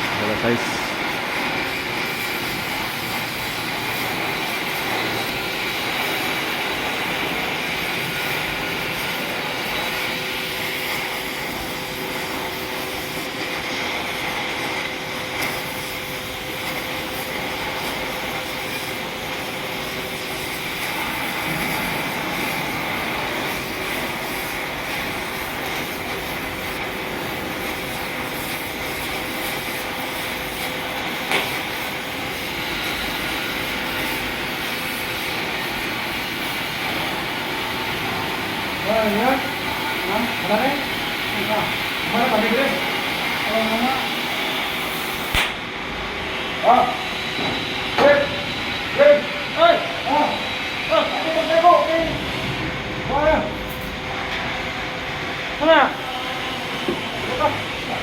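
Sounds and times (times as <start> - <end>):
welding torch flame hissing: 0.0 - 58.0.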